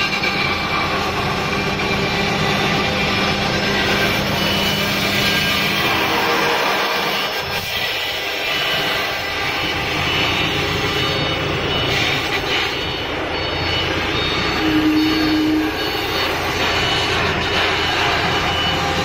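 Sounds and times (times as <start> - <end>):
cnc router spindle whine: 0.0 - 19.0.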